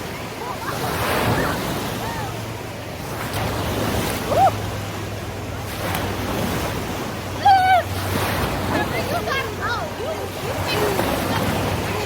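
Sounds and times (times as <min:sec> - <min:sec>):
pool water and waves: 0:00.0 - 0:12.0.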